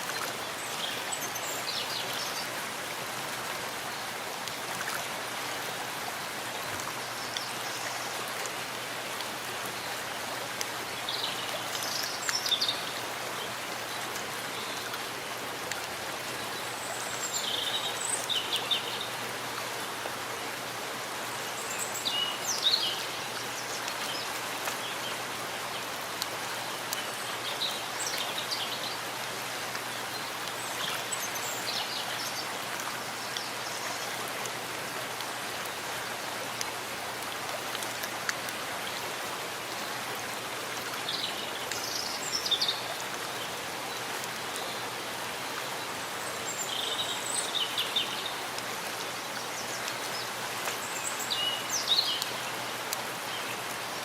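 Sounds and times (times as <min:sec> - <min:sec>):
rain on leaves: 0:00.0 - 0:54.0.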